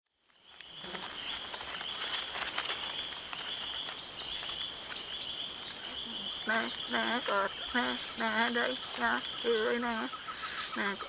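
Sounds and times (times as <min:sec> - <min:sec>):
insects chirping and trilling: 0:00.1 - 0:11.0.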